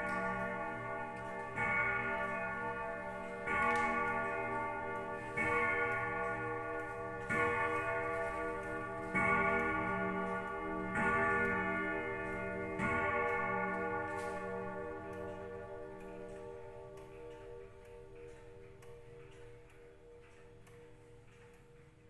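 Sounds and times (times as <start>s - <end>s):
grandfather clock striking: 0.0s - 22.0s.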